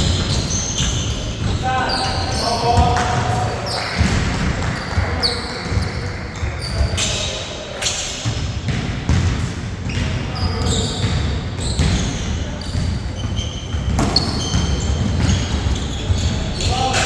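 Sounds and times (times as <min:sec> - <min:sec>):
basketball bouncing on court: 0:00.0 - 0:06.9, 0:08.3 - 0:17.0
sneakers squeaking: 0:00.0 - 0:17.0.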